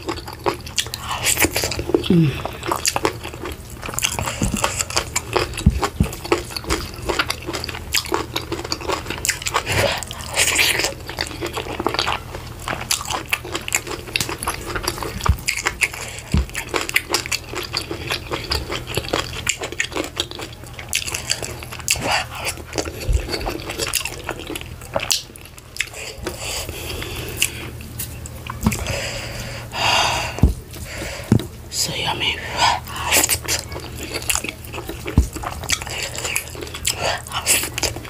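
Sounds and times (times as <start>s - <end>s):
person chewing wetly: 0.0s - 38.0s.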